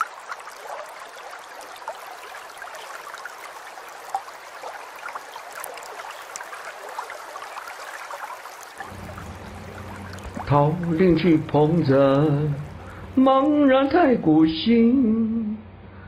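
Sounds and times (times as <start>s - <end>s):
running water babbling: 0.0s - 14.6s.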